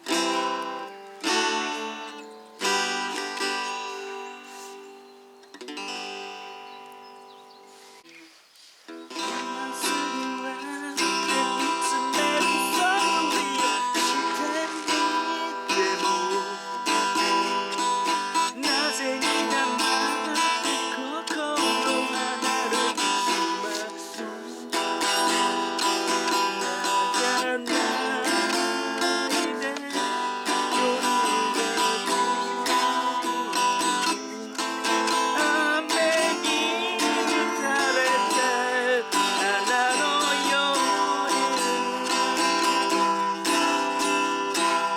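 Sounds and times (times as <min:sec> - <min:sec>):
acoustic guitar music: 0:00.0 - 0:44.9.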